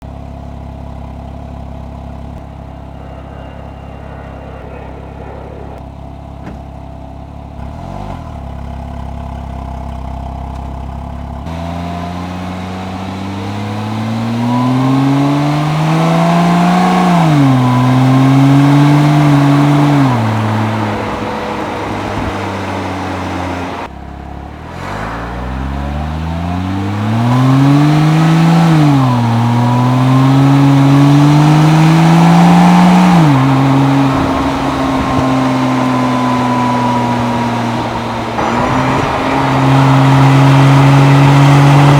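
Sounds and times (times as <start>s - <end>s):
car engine accelerating through gears: 0.6s - 6.7s, 7.3s - 41.9s.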